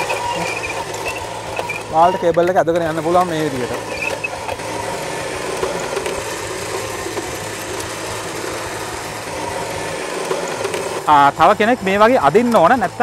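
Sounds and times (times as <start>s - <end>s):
electric winch motor running: 0.0s - 13.0s.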